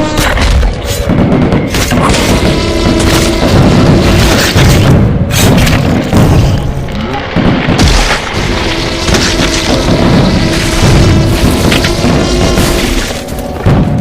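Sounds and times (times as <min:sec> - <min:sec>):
booms and crashes: 0:00.1 - 0:14.0.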